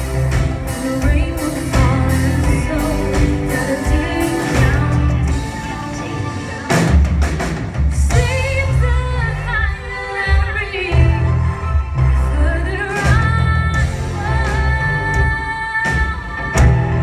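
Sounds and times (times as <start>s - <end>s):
live rock band playing: 0.0s - 17.0s
woman singing: 0.1s - 6.6s, 8.0s - 11.6s, 12.2s - 17.0s.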